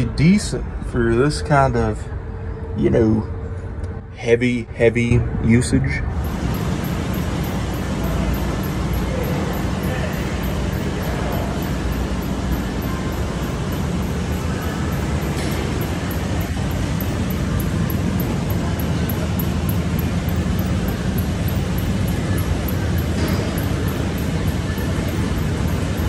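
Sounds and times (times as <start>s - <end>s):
low machinery drone: 0.0s - 26.0s.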